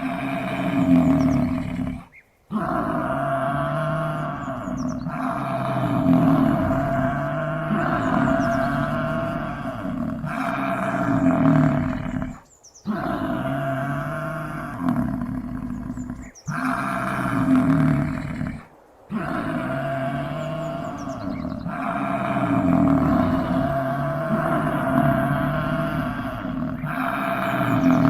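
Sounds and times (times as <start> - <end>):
bison bellowing: 0.0 - 28.0.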